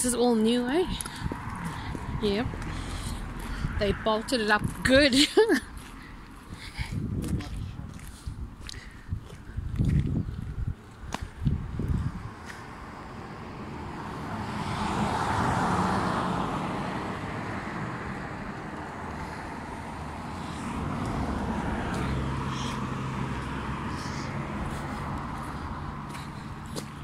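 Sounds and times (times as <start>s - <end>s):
road traffic passing: 0.0s - 27.0s
vehicle engine hum: 0.0s - 27.0s.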